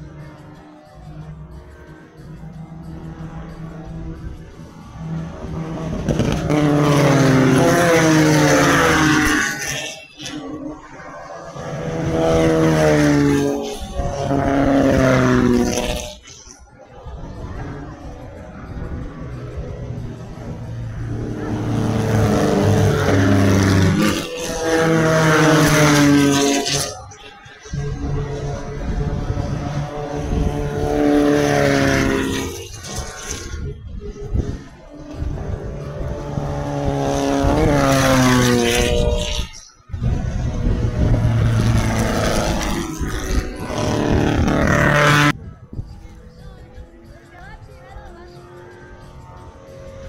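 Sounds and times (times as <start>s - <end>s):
race car engines revving: 0.0s - 50.0s.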